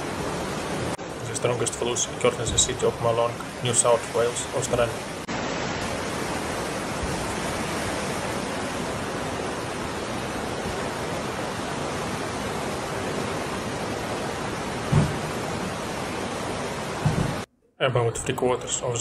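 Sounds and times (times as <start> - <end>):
floodwater rushing: 0.0 - 17.5.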